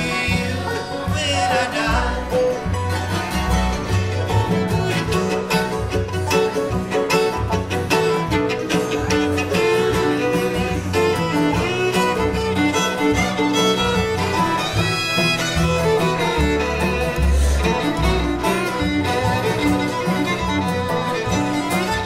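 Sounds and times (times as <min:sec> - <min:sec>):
bluegrass band playing: 0:00.0 - 0:22.0
fiddle melody: 0:00.0 - 0:22.0
picked guitar: 0:00.0 - 0:22.0.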